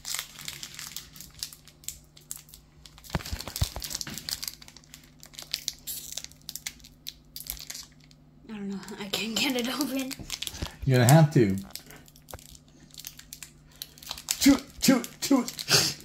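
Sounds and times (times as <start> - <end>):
foil wrapper crinkling: 0.0 - 8.2, 9.0 - 16.0.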